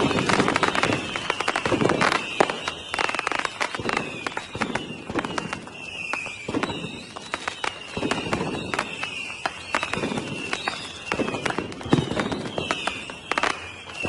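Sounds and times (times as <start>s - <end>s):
fireworks popping and banging: 0.0s - 14.0s.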